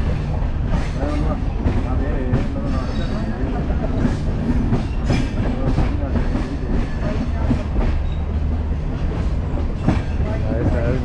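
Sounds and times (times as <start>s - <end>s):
train coach rumble: 0.0s - 11.0s
train wheels clacking: 0.0s - 11.0s.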